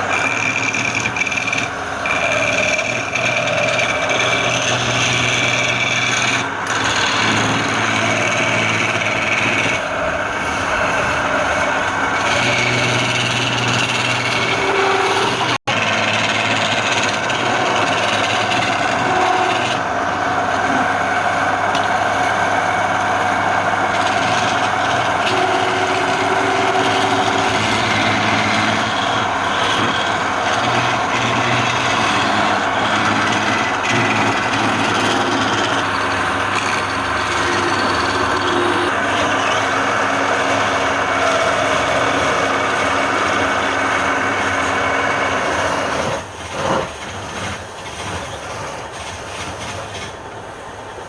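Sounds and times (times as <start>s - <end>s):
tool scraping spinning wood: 0.0s - 50.2s
wood lathe running: 0.0s - 50.9s.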